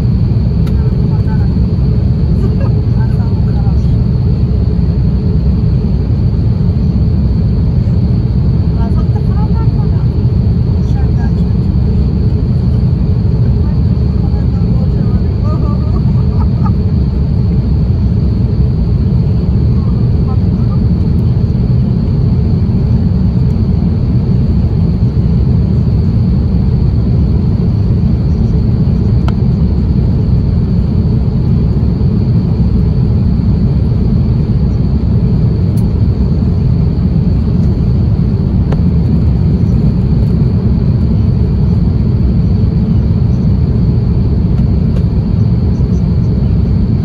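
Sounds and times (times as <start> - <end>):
aircraft cabin rumble: 0.0 - 47.0.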